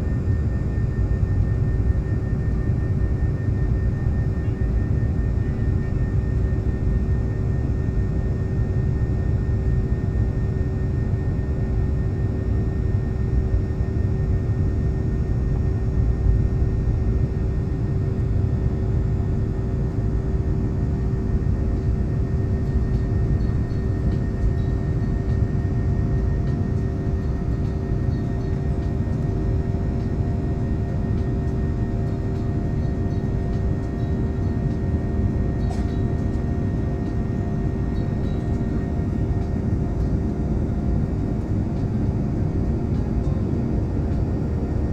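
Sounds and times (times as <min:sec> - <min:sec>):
jet engine cabin rumble: 0:00.0 - 0:44.9.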